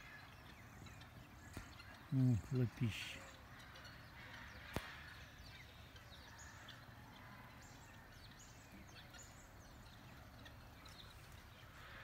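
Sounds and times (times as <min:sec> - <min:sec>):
small birds chirping faintly: 0:00.0 - 0:12.0.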